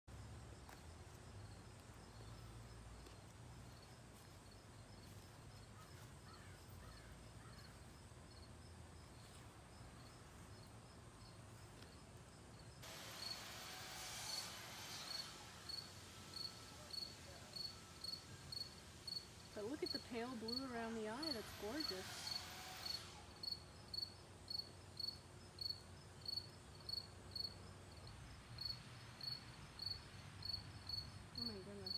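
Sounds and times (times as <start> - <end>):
insect-like chirping: 0.2 - 13.4, 15.0 - 20.6, 21.8 - 31.9.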